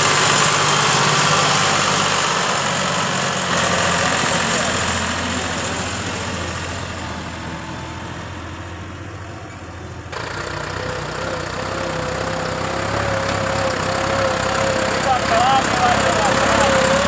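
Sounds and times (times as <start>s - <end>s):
tractor engine under load: 0.0s - 17.0s
tractor engine whining: 0.0s - 17.0s.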